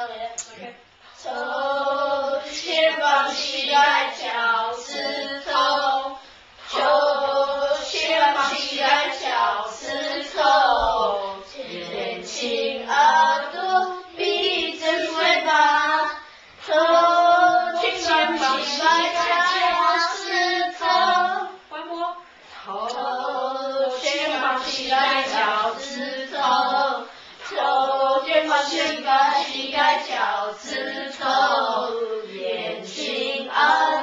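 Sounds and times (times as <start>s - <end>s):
children and women singing: 0.0s - 34.0s.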